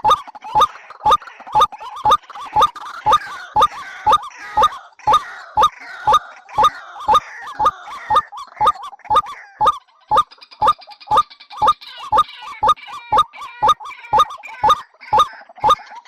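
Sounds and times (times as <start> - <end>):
faint bird chatter: 0.0 - 16.0.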